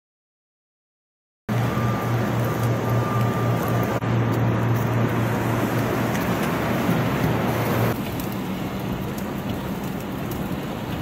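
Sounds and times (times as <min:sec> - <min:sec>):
low engine hum: 0:01.5 - 0:11.0
traffic noise: 0:01.5 - 0:11.0.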